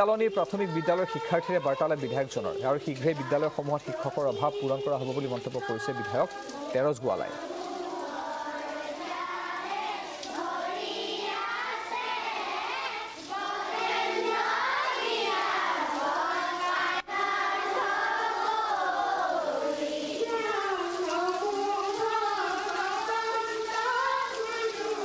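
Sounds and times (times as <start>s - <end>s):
children singing in unison: 0.0s - 25.0s.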